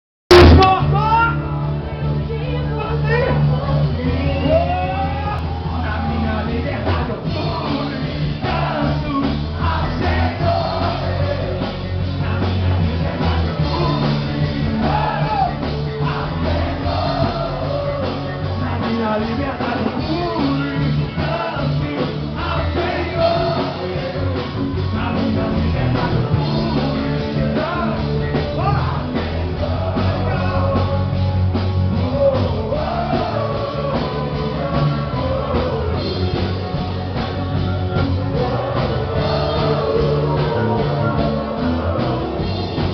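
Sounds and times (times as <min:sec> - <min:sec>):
live rock band playing: 0:00.3 - 0:42.9
person singing: 0:03.3 - 0:42.9.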